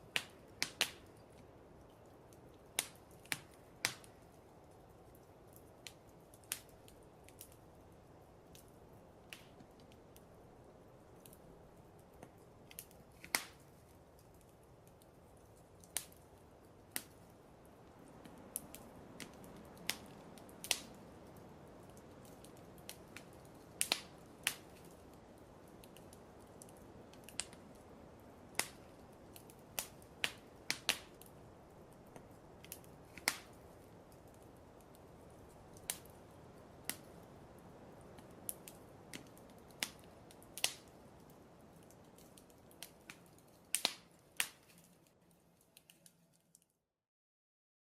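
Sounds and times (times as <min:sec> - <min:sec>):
wood fire crackling and popping: 0:00.0 - 0:46.7.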